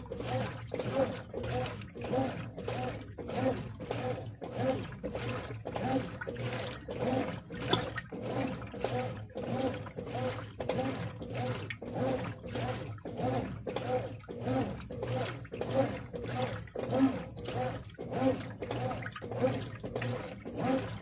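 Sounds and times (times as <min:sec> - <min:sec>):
low motor hum: 0:00.0 - 0:21.0
washing machine water sloshing: 0:00.0 - 0:21.0.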